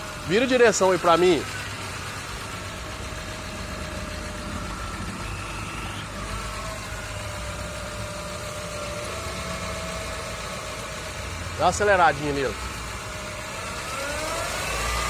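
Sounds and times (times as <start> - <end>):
car engine idling: 0.0 - 15.0
high-pitched whine: 0.0 - 15.0.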